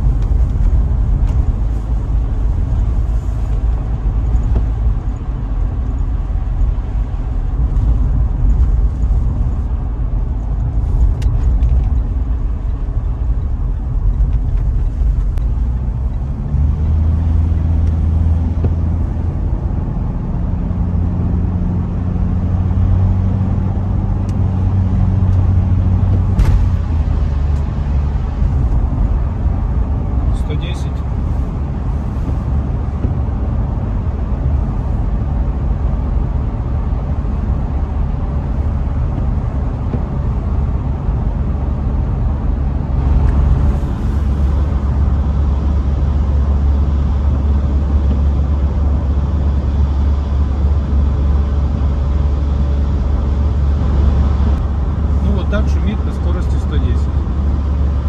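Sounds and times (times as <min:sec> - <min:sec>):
low engine drone: 0:00.0 - 0:58.0
tyre and road rumble: 0:00.0 - 0:58.0.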